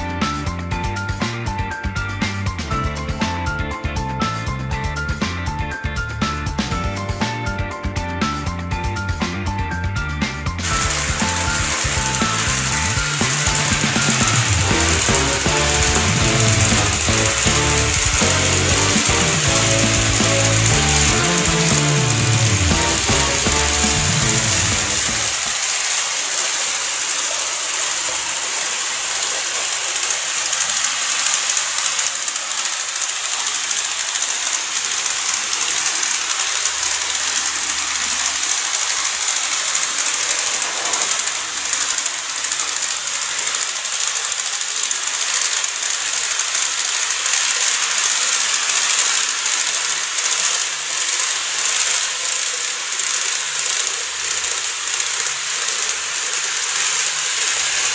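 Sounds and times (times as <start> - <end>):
model train motor whirring: 10.6 - 57.9
small wheels rolling on rails: 10.6 - 57.9.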